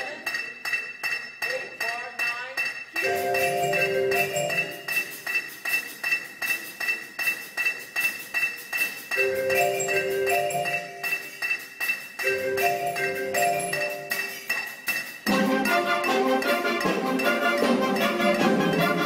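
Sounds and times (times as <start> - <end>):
marching band mallet percussion: 0.0 - 19.0.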